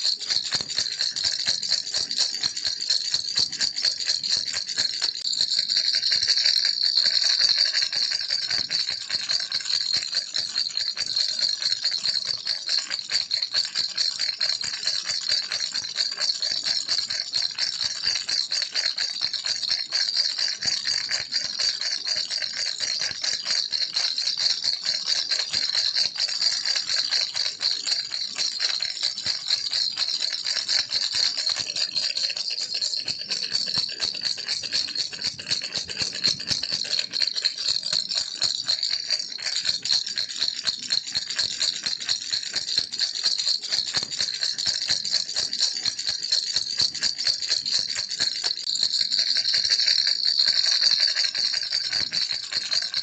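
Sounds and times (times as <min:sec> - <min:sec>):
toy rattle shaken: 0:00.0 - 0:53.0.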